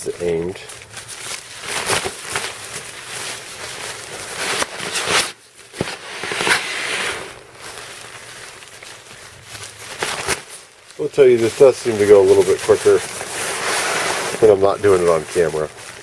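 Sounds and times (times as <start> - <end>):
nylon pump bag crinkling: 0.0 - 16.0.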